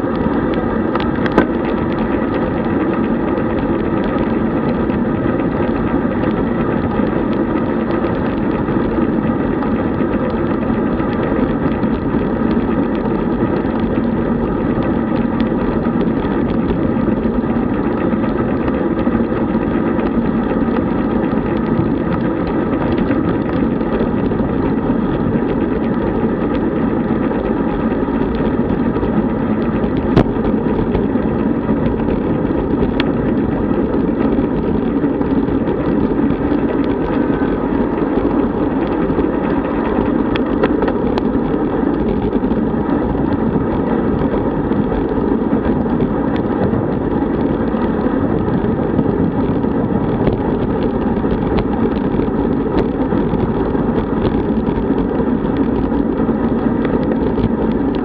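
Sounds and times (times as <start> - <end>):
bike tyres rolling on asphalt: 0.0 - 58.0
wind rushing over microphone: 0.0 - 58.0.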